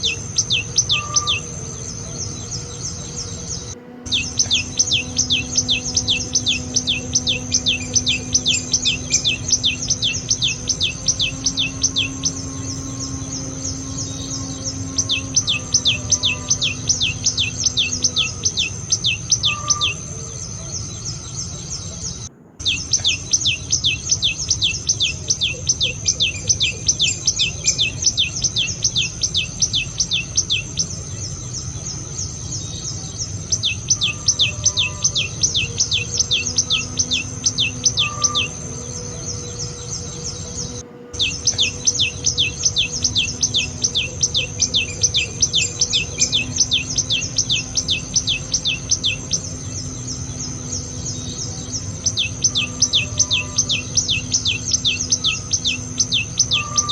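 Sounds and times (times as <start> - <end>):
bird chirping: 0.0 - 56.9
high insect whine: 0.0 - 56.9.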